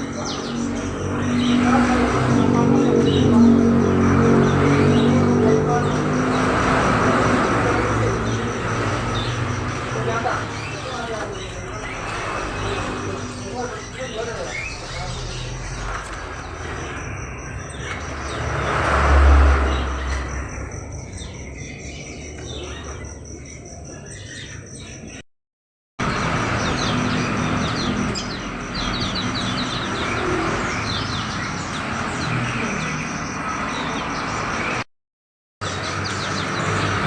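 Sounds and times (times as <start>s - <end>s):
songbirds chirping: 0.0s - 25.2s, 26.0s - 34.8s, 35.6s - 37.0s.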